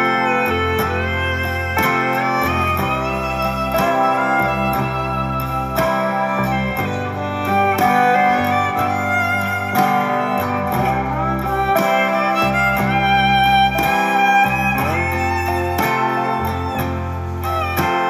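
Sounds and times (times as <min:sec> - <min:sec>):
instrumental background music: 0:00.0 - 0:18.0.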